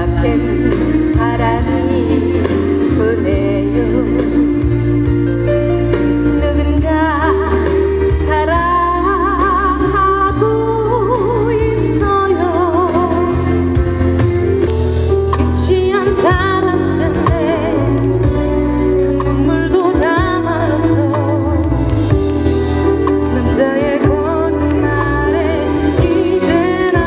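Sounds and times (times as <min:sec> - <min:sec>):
woman singing into a microphone: 0:00.0 - 0:14.4, 0:15.4 - 0:27.0
backing music with bass: 0:00.0 - 0:27.0.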